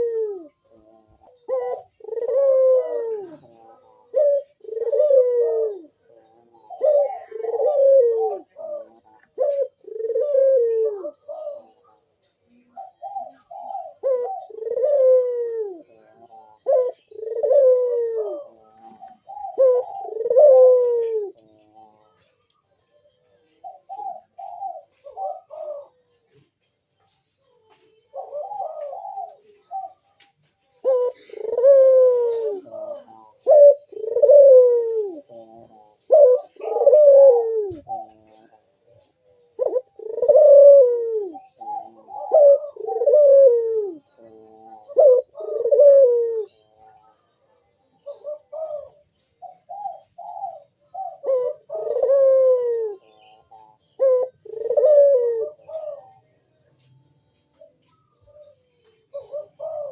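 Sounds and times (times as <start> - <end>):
dove cooing: 0.0 - 26.6, 27.6 - 56.8, 57.4 - 59.9.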